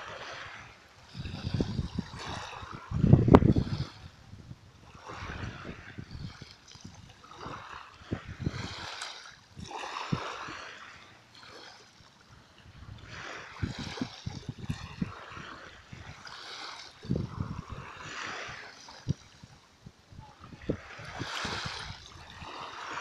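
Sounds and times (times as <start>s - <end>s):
sea water lapping and splashing: 0.0s - 23.0s.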